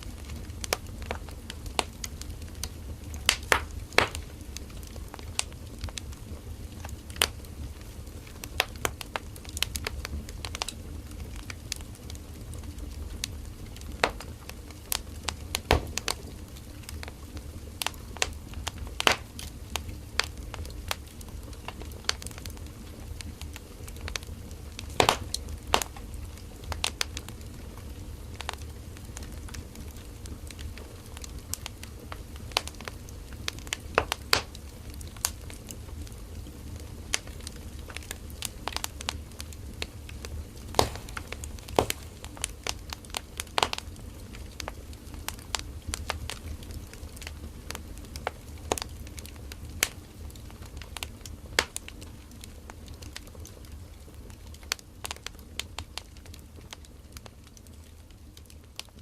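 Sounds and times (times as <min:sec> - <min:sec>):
firewood crackling and popping: 0:00.0 - 0:59.0
low rumble of flames: 0:00.0 - 0:59.0.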